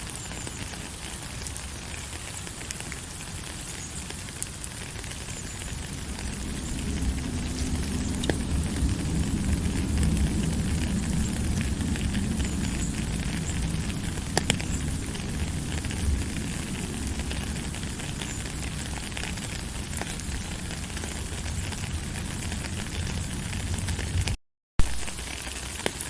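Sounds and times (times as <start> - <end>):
sharp raindrop ticks: 0.0 - 26.0
steady rain hiss: 0.0 - 26.0.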